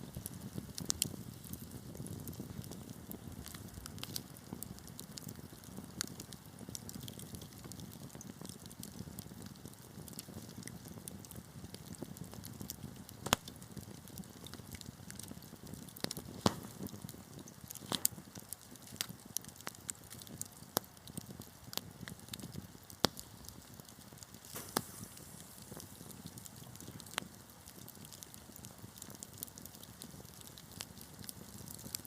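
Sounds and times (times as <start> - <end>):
sharp pops from burning logs: 0.0 - 32.0
wood fire crackling: 0.0 - 32.0.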